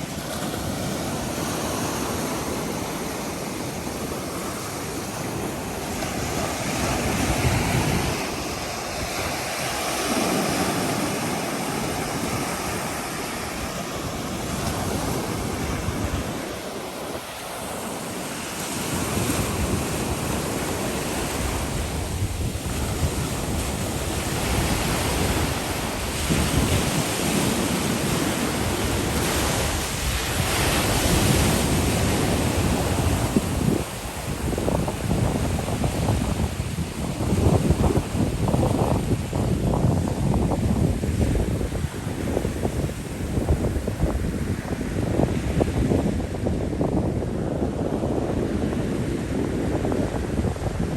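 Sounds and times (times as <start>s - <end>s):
surf washing onto beach: 0.0s - 50.9s
wind buffeting microphone: 0.0s - 50.9s.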